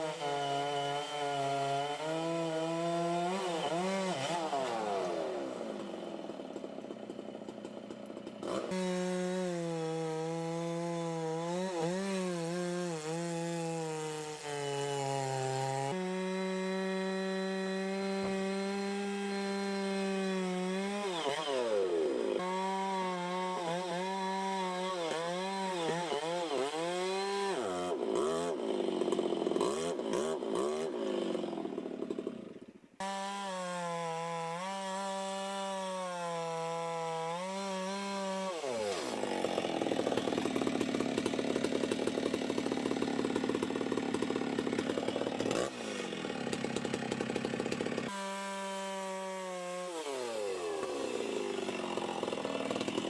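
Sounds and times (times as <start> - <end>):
chainsaw idling and revving: 0.0 - 53.0.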